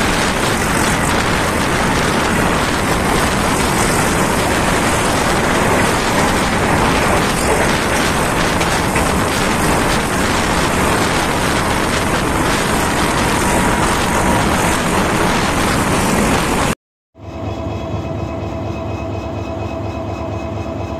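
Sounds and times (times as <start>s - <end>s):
train wheel and wind noise: 0.0s - 20.9s.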